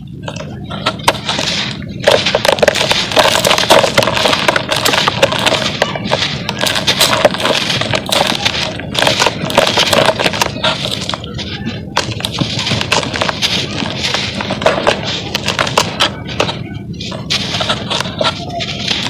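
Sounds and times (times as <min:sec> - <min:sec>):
cement clump crunching by hand: 0:00.2 - 0:19.0.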